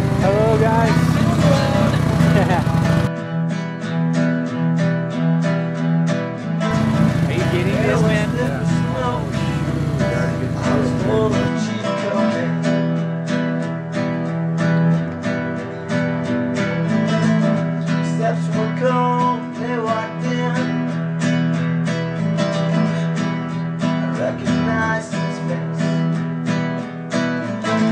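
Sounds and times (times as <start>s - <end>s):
strummed acoustic guitar: 0.0s - 27.9s.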